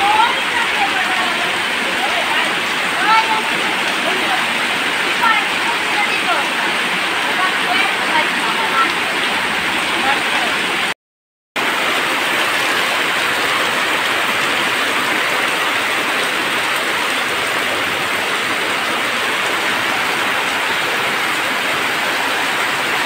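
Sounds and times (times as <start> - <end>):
heavy rain: 0.0 - 11.0, 11.6 - 23.0.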